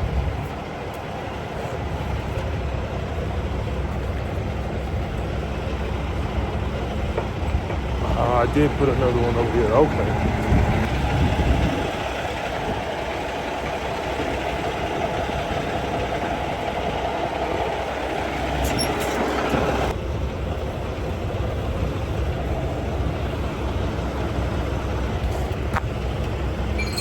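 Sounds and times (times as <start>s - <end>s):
truck diesel engine idling: 0.0s - 27.0s.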